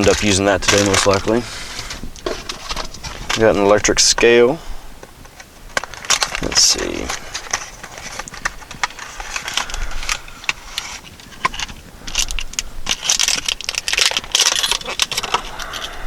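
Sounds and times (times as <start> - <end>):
plastic and cardboard crinkling: 0.0 - 16.0.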